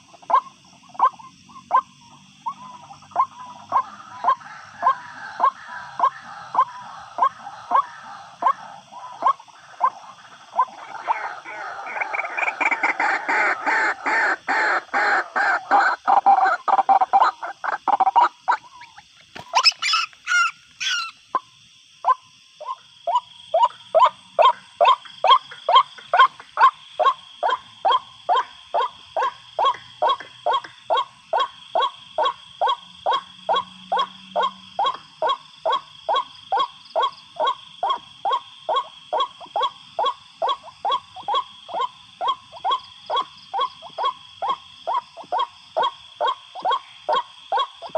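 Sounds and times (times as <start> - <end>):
waterhen calls: 0.0 - 21.4, 22.0 - 47.9.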